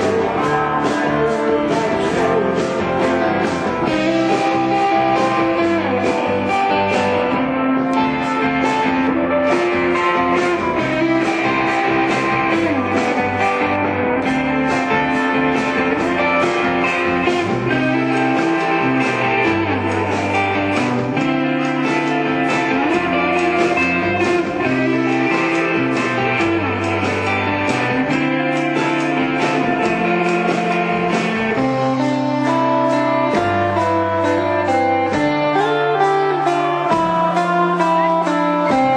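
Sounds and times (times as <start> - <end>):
indie rock band playing live: 0.0 - 38.9.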